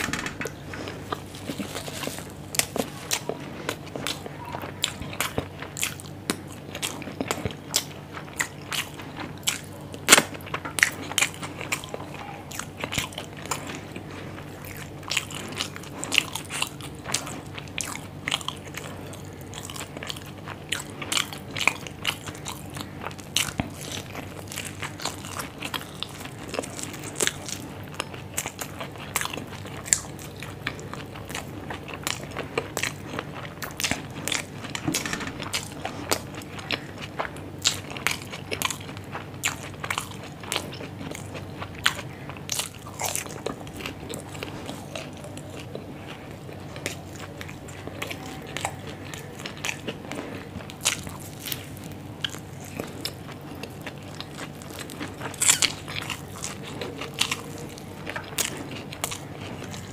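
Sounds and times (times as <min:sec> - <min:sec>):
sharp food crunches: 0:00.0 - 0:59.9
wet chewing and biting: 0:00.0 - 0:59.9.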